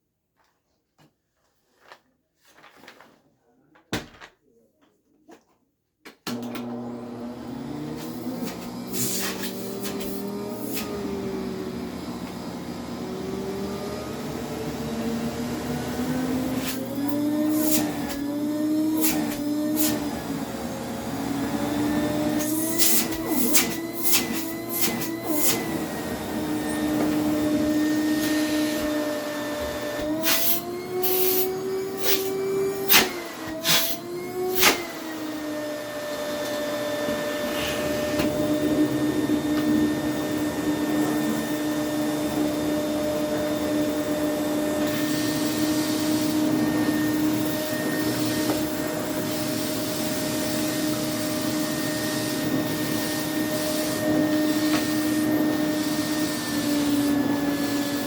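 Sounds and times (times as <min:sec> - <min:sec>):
vacuum cleaner motor hum: 0:06.3 - 0:58.0.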